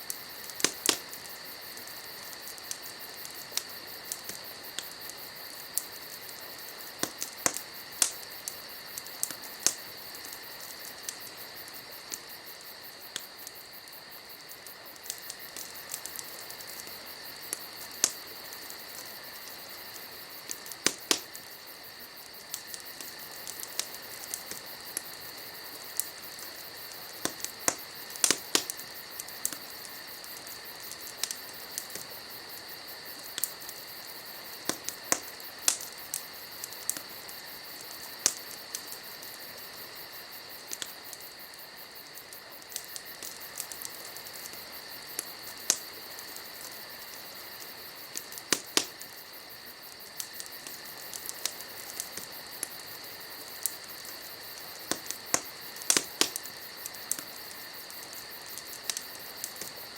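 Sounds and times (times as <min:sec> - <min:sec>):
campfire crackling and popping: 0:00.0 - 0:59.9
night insects trilling: 0:00.0 - 0:59.9.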